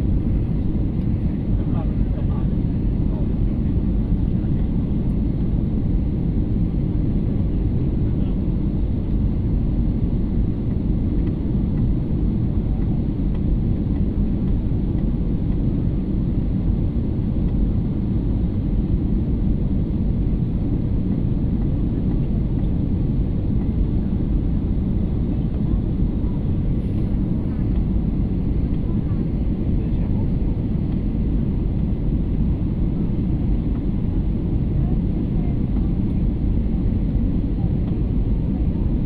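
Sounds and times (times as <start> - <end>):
airliner cabin noise: 0.0 - 39.0.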